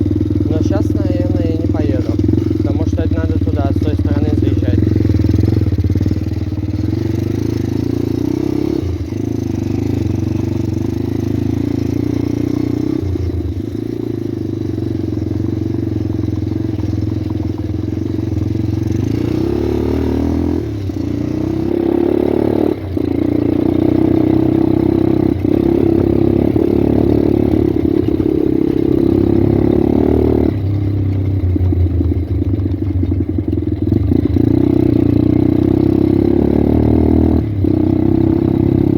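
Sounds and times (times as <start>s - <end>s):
small motorbike engine revving: 0.0s - 31.2s, 33.9s - 38.9s.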